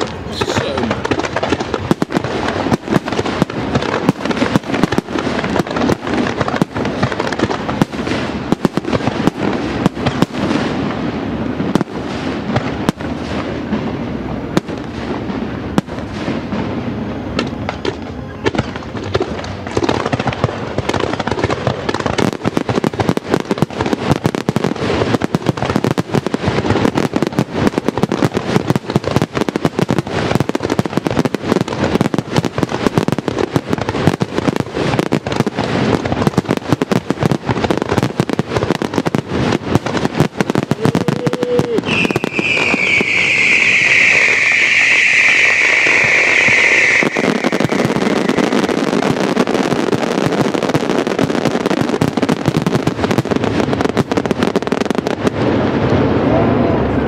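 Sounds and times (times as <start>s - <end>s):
fireworks barrage: 0.0s - 57.0s.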